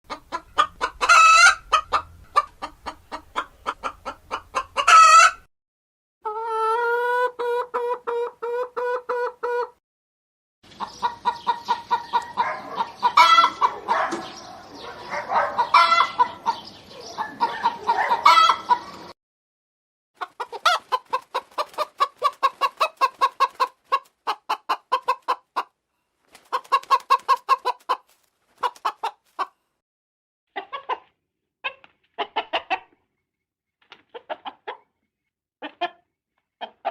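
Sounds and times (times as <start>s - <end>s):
hens clucking: 0.1s - 5.5s, 6.2s - 9.8s, 10.7s - 19.1s, 20.2s - 25.8s, 26.4s - 29.5s, 30.6s - 33.0s, 34.1s - 34.9s, 35.6s - 36.0s, 36.6s - 36.9s.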